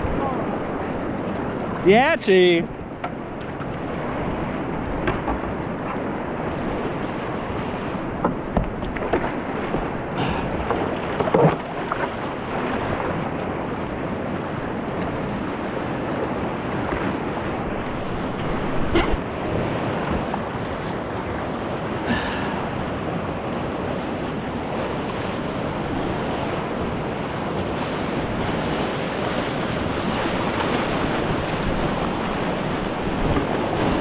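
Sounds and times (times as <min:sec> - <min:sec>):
river rapid rushing: 0:00.0 - 0:08.2, 0:09.2 - 0:34.0.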